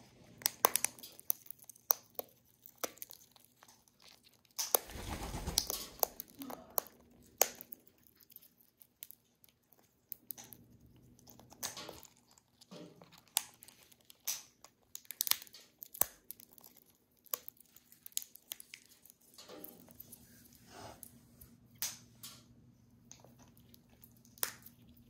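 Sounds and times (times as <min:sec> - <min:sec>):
bird cracking nut shells: 0:00.4 - 0:20.0, 0:23.1 - 0:25.0.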